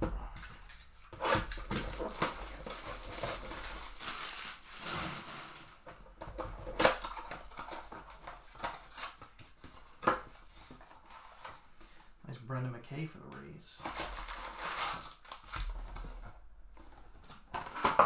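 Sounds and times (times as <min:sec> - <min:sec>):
wrapping crinkling and tearing: 0:00.4 - 0:11.7, 0:13.8 - 0:18.0.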